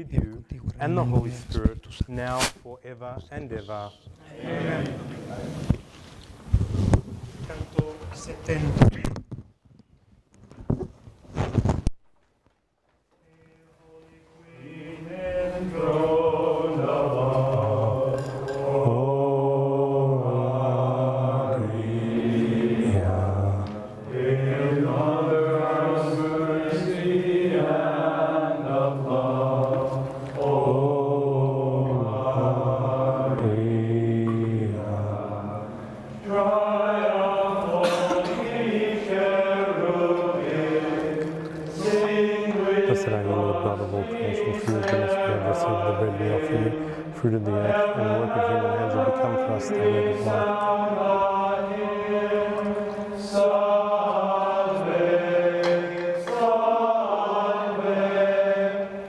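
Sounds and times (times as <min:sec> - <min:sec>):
congregation singing a hymn: 0:03.7 - 0:05.8, 0:13.2 - 0:59.0.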